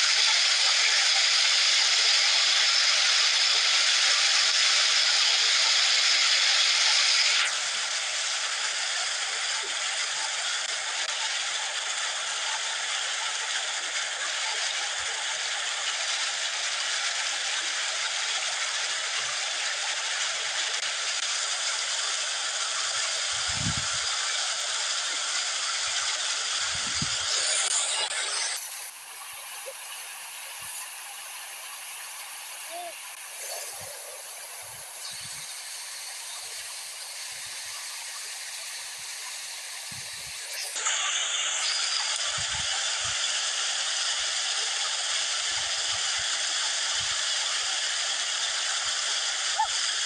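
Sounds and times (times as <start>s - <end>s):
water cascading over weir: 0.0s - 50.0s.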